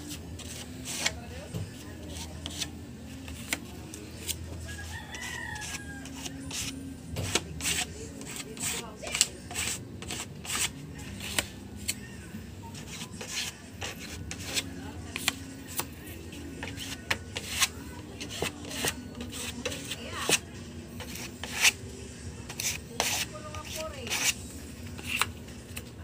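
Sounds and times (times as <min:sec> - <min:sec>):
spreader scraping filler on wood: 0:00.1 - 0:03.6, 0:04.2 - 0:11.9, 0:12.7 - 0:15.9, 0:16.6 - 0:20.4, 0:21.0 - 0:21.8, 0:22.5 - 0:24.4.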